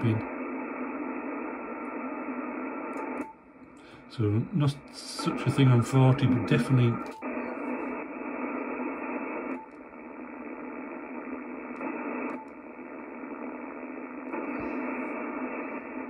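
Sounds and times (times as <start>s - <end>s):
radio receiver hiss: 0.0s - 16.0s.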